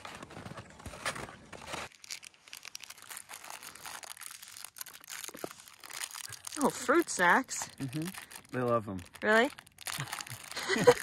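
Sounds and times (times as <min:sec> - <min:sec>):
plastic wrapper crinkling: 0:01.5 - 0:11.0.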